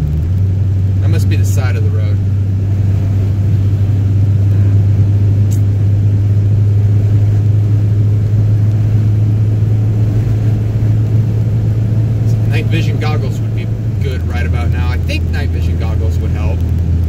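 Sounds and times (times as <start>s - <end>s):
car engine and tyres hum: 0.0s - 17.0s.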